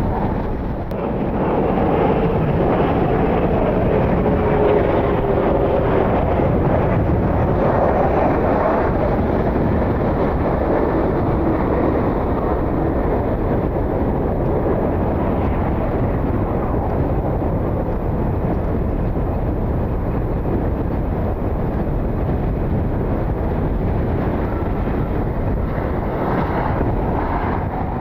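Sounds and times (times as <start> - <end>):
jet engines running: 0.0 - 28.0
wind buffeting microphone: 0.0 - 28.0.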